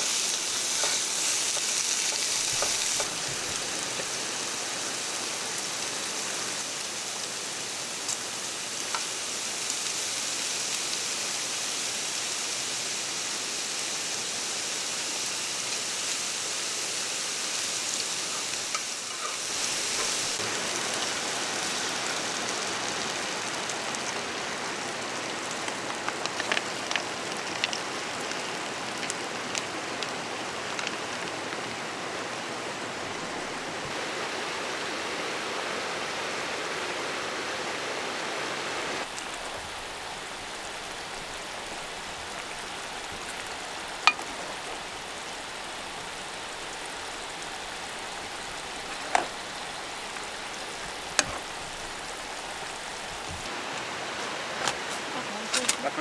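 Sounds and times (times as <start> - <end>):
water hissing: 0.0 - 36.8, 38.2 - 56.0.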